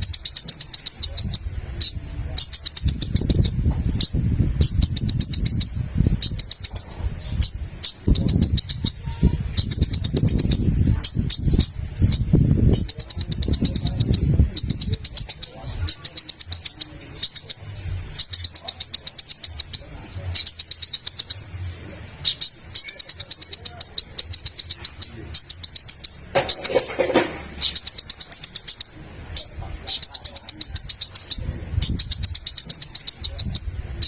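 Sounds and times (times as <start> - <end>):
bird singing high sharp notes: 0.0 - 21.6, 22.2 - 34.0.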